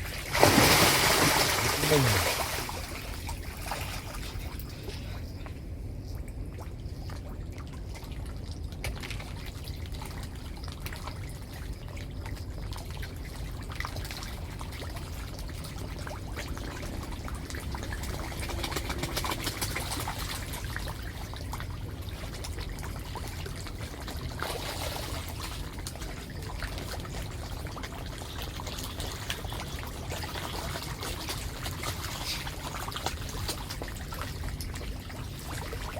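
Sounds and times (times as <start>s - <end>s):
water trickling and pouring: 0.0s - 5.4s, 6.7s - 35.9s.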